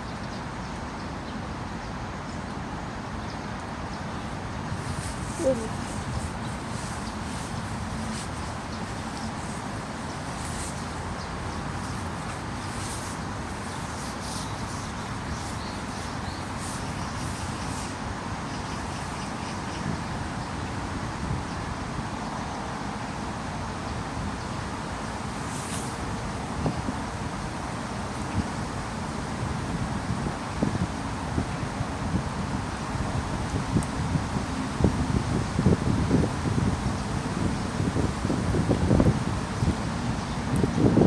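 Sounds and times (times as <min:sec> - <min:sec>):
heavy rain in woodland: 0:02.7 - 0:41.0.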